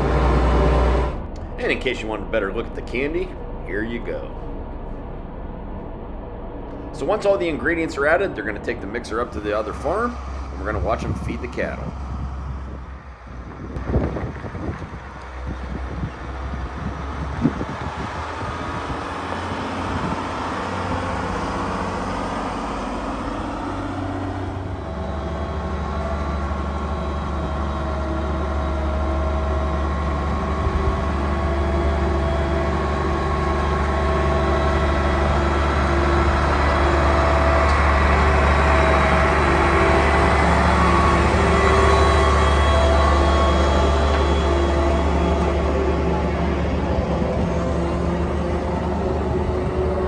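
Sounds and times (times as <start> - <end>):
truck engine on gravel road: 0.0 - 50.0.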